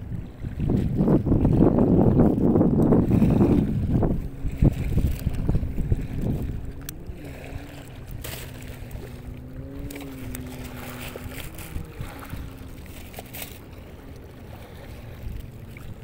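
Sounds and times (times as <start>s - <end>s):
wind rumbling on microphone: 0.0s - 16.0s
distant engine droning: 2.6s - 16.0s.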